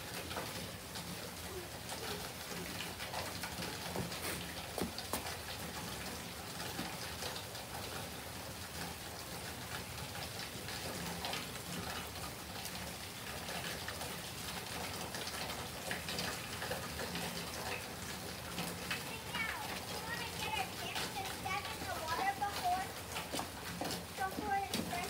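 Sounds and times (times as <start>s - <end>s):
light rain hiss: 0.0s - 25.0s
water dripping: 0.0s - 25.0s.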